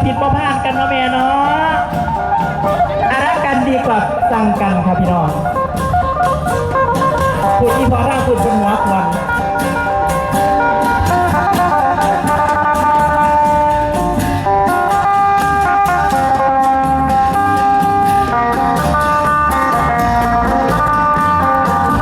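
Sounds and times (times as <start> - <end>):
band playing dance music: 0.0 - 22.0
plucked strings: 0.0 - 22.0
steady drum beat: 0.0 - 22.0.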